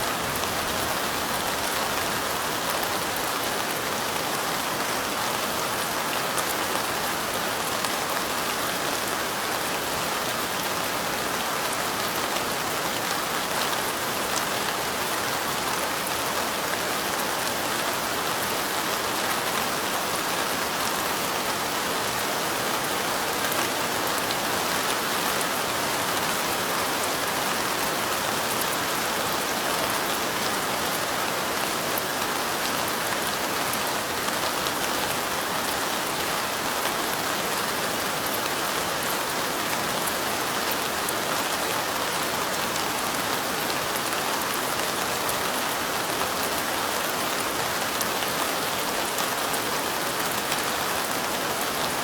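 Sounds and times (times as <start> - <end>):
light rain: 0.0 - 52.0.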